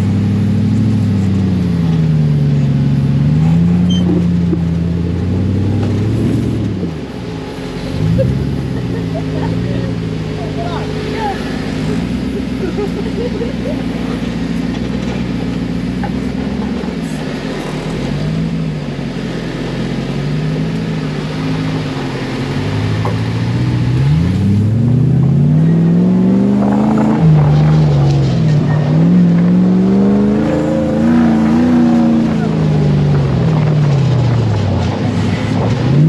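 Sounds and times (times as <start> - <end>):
buggy engine revving: 0.0 - 36.0.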